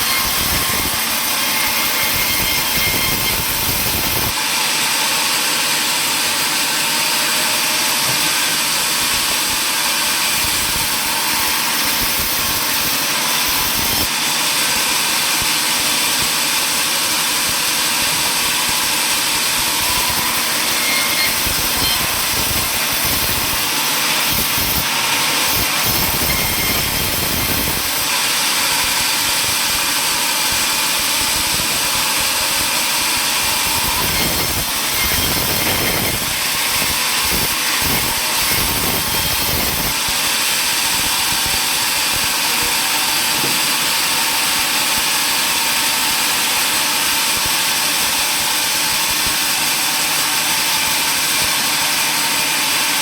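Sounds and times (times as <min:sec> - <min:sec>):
sawmill machinery running: 0:00.0 - 0:53.0.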